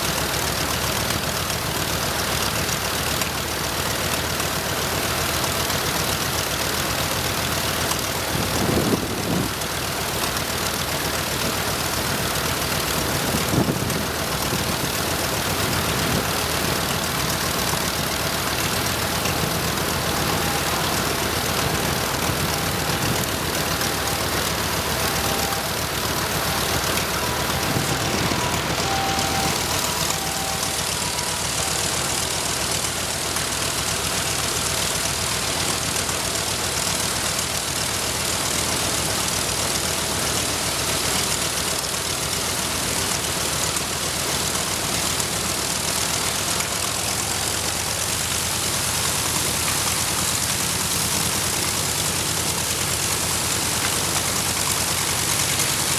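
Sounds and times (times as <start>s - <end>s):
radial aircraft engine running: 0.0s - 55.9s.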